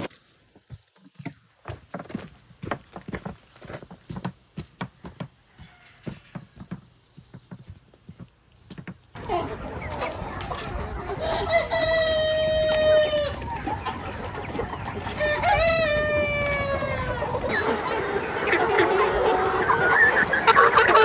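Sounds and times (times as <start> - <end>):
chickens clucking: 2.2 - 21.0.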